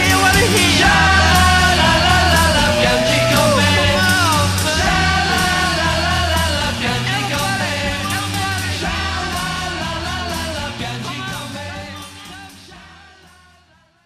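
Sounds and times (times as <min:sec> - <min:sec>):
pop-rock band with drums: 0:00.0 - 0:13.8.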